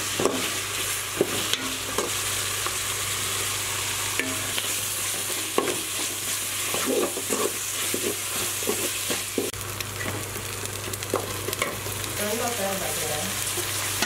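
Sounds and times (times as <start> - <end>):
onions sizzling in a pot: 0.0 - 14.0.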